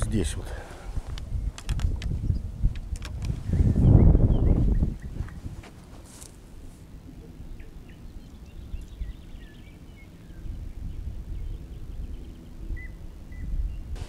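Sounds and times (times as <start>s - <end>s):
wind rumble on microphone: 0.0s - 6.1s, 7.0s - 14.0s.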